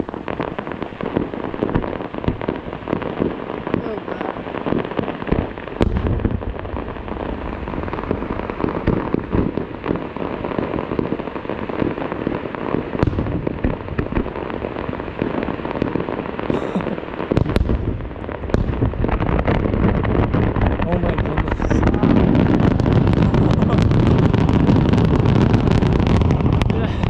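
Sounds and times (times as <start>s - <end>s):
deep fireworks booms: 0.0s - 27.0s
fireworks bangs and crackles: 0.0s - 27.0s.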